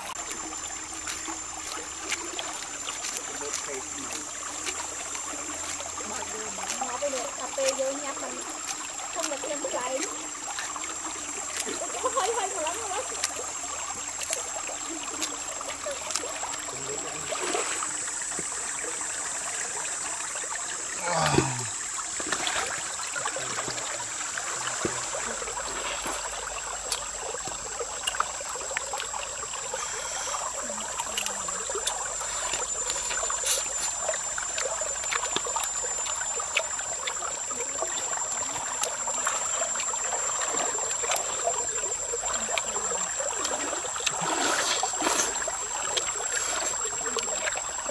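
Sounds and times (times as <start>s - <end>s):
stream running over stones: 0.0s - 47.9s.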